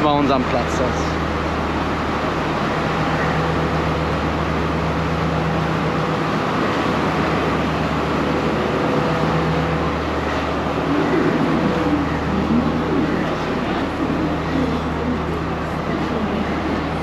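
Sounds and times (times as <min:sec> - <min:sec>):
diesel train engine idling: 0:00.0 - 0:17.0
platform noise: 0:02.7 - 0:17.0.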